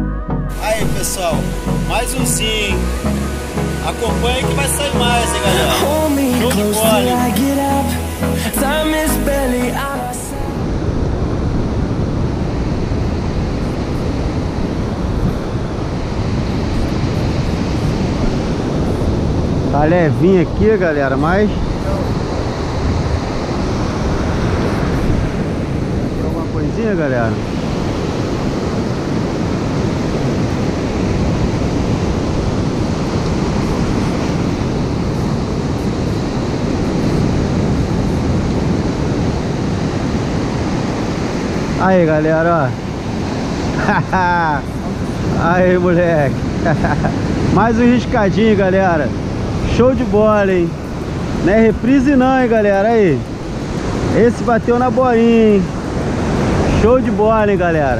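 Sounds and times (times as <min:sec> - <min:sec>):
surf breaking on beach: 0:00.6 - 0:57.9
wind buffeting microphone: 0:10.4 - 0:57.9.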